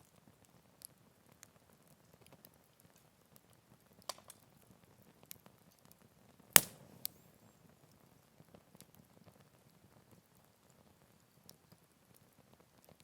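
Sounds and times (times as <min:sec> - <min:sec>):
wood fire crackling and popping: 0:00.1 - 0:07.2, 0:07.8 - 0:13.0.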